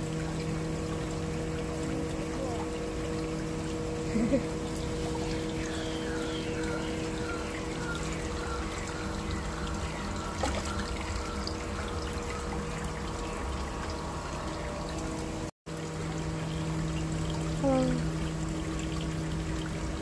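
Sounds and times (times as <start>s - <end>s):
steady hum: 0.0s - 20.0s
water trickling into pond: 0.0s - 20.0s.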